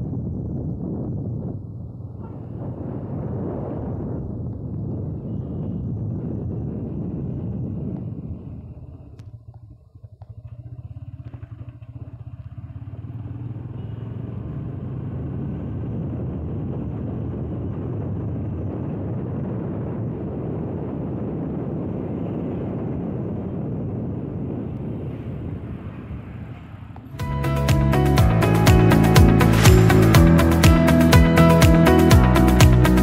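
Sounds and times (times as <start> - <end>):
wind and road noise: 0.0 - 33.0
motorcycle engine running: 0.1 - 20.3, 21.4 - 33.0.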